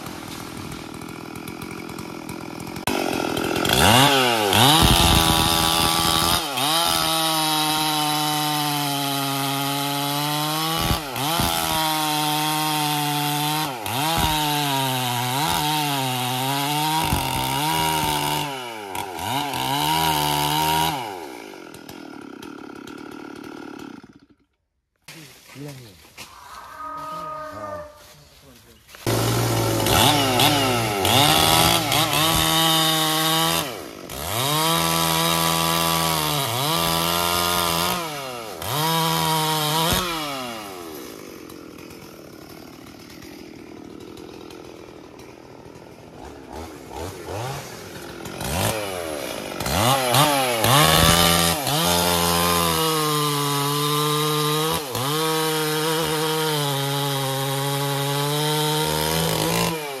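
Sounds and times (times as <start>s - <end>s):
chainsaw revving and idling: 0.0s - 25.8s, 28.9s - 60.0s.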